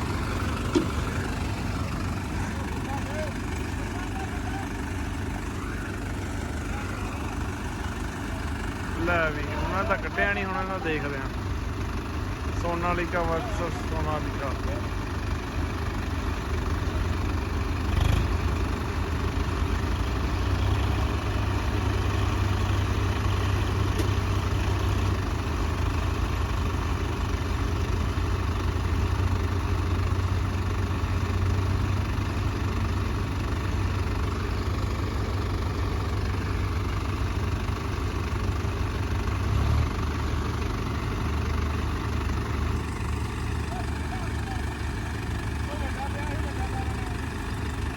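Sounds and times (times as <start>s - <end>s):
tractor diesel engines rumbling: 0.0s - 47.9s.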